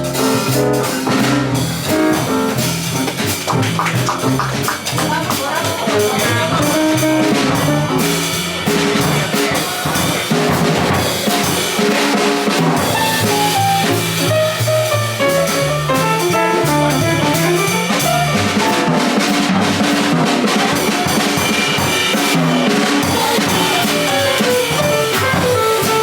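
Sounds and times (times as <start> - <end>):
drum kit: 0.0 - 26.0
jazz band playing: 0.0 - 26.0.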